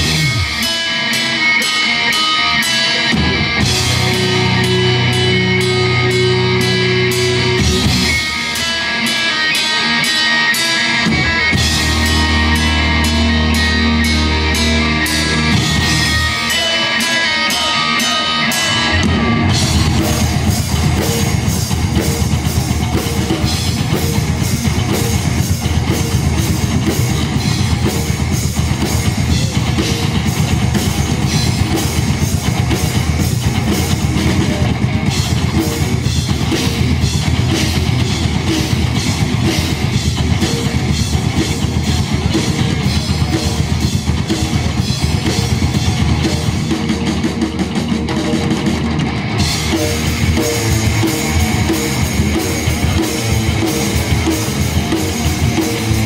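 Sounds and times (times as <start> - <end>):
bass guitar: 0.0 - 56.0
drum kit beats: 0.0 - 56.0
electric guitars: 0.0 - 56.0.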